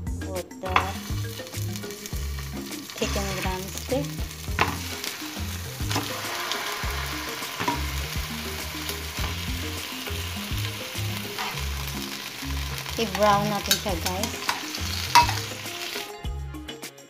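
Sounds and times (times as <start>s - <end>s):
chicken sizzling in hot oil: 0.6s - 16.2s.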